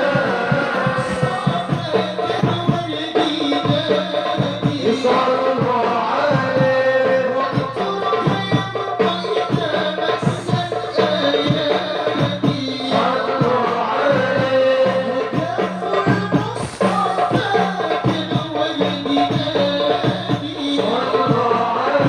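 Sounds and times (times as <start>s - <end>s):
hand drums beating: 0.0s - 22.0s
voices singing devotional song: 0.0s - 22.0s.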